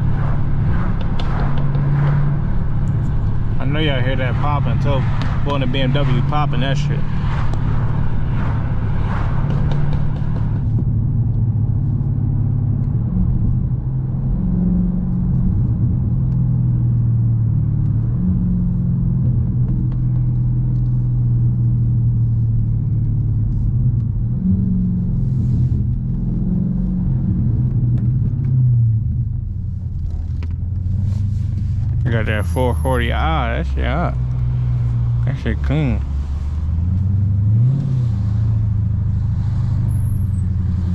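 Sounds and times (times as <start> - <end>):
car engine running at low revs: 0.0 - 40.9.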